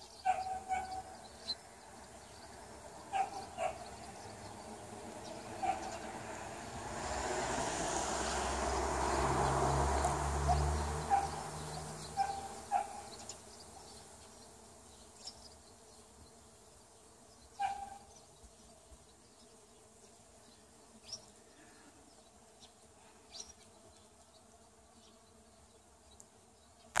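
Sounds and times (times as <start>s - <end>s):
bees buzzing: 0.4s - 22.4s.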